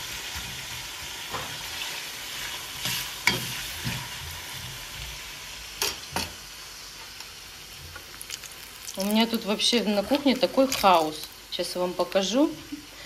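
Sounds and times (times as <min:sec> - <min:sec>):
meat and onions sizzling in oil: 0:00.0 - 0:13.0.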